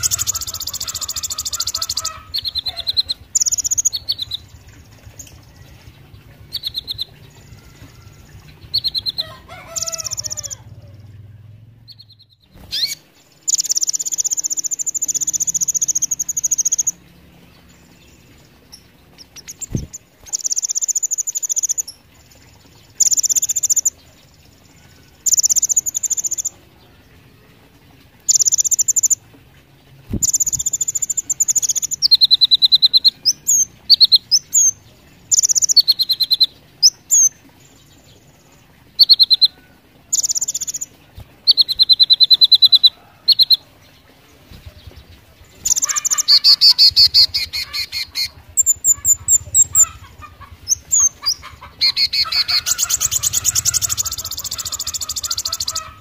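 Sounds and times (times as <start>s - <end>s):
sunbird chirping and trilling: 0.0s - 27.5s, 28.2s - 29.2s, 30.1s - 56.0s.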